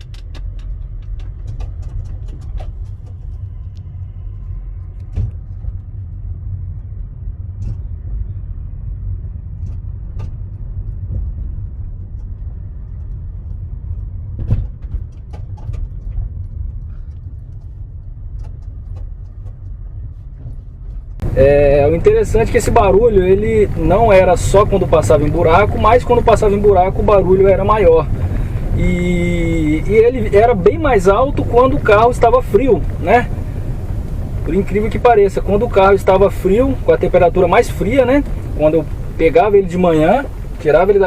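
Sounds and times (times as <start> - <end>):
suspension knocks and clicks: 0.0 - 8.1, 9.5 - 41.0
car road rumble: 0.0 - 41.0.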